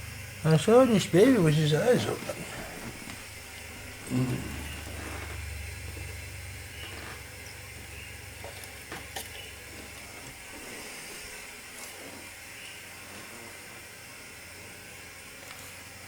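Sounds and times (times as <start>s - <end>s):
room hiss and hum: 0.0s - 16.0s.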